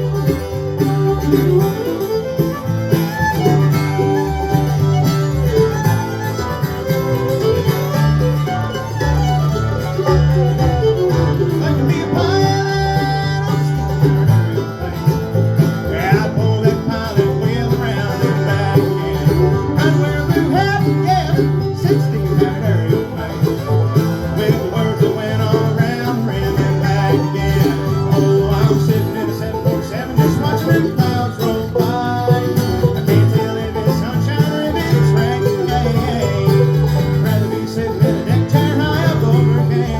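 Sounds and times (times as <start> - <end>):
bluegrass band instrumental: 0.0 - 39.9.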